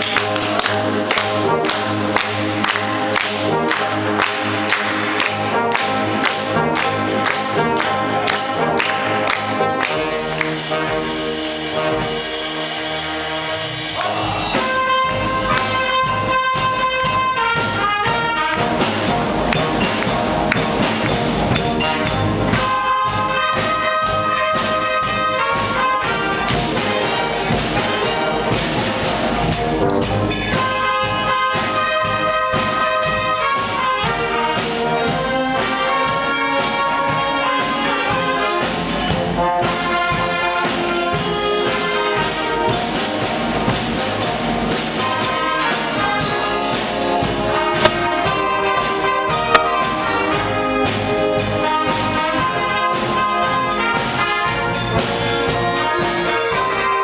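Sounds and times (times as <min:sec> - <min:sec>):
wind band playing: 0:00.0 - 0:57.0.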